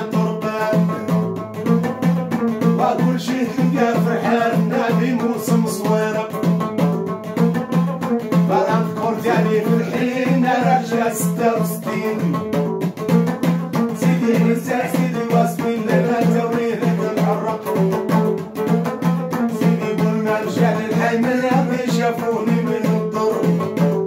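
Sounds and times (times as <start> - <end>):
man singing: 0.0 - 1.7, 2.6 - 6.8, 8.3 - 12.7, 13.8 - 18.3, 19.5 - 24.0
lute strummed: 0.0 - 24.0.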